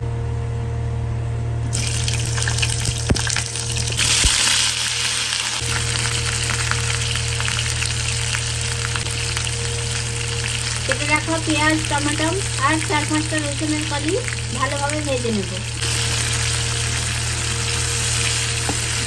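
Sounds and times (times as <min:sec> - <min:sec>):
oil sizzling in frying pan: 0:01.7 - 0:19.0.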